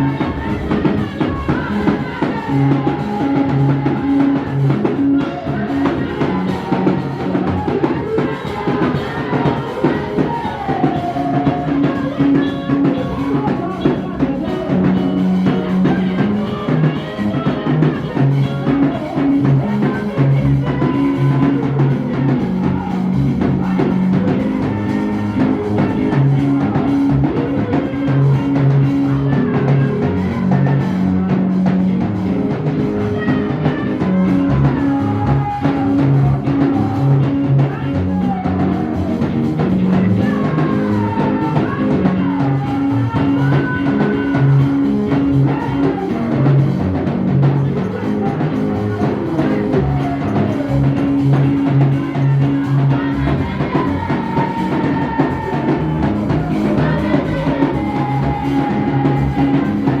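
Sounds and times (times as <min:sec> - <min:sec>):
bass line: 0:00.0 - 1:00.0
drum kit: 0:00.0 - 1:00.0.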